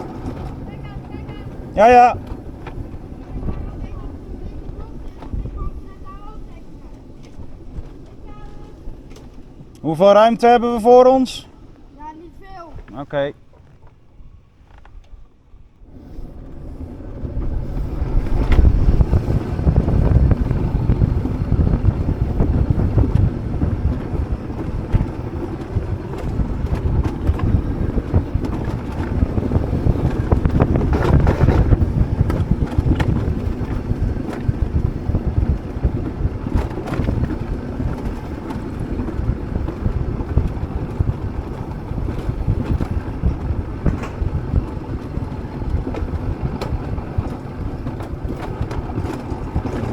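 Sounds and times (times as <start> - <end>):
sled wheels rumbling on rails: 0.0 - 49.9
wind buffeting microphone: 0.0 - 49.9.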